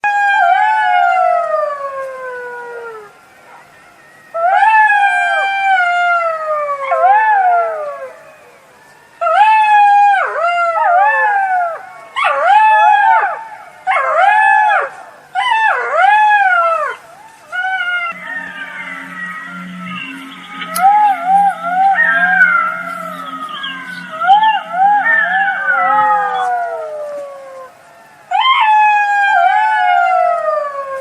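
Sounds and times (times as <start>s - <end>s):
jackal howling: 0.1s - 31.0s.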